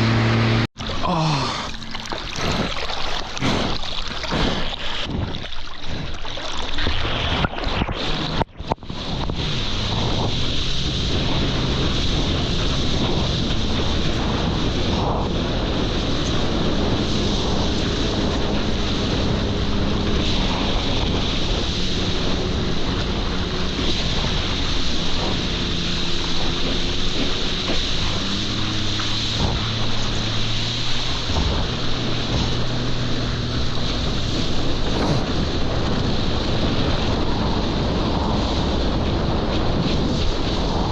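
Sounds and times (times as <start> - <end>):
jet ski running over water: 0.0 - 40.9
water rushing: 0.0 - 40.9
wind buffeting microphone: 0.0 - 40.9.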